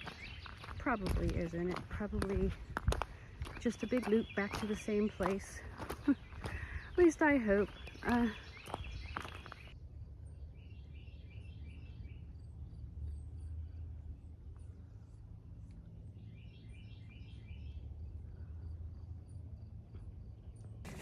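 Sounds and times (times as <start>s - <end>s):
songbird chirping: 0.0s - 19.0s
low outdoor rumble: 0.0s - 21.0s.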